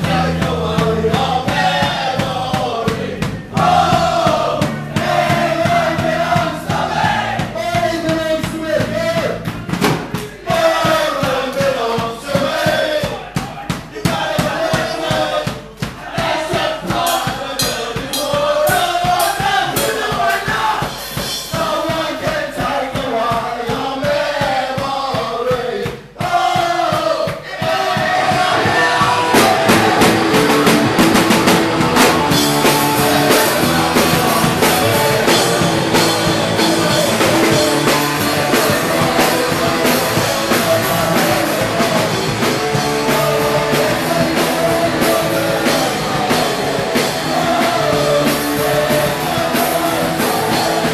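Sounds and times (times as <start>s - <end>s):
drum beats: 0.0s - 50.9s
punk rock band playing: 0.0s - 50.9s
punk rock singing: 0.0s - 50.9s.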